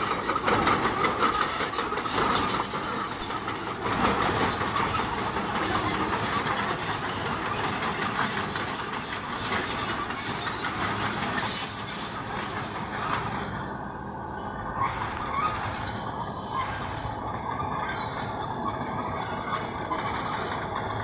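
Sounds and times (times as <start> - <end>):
bulldozer diesel engine: 0.0 - 21.0
crawler tracks clanking: 0.0 - 21.0.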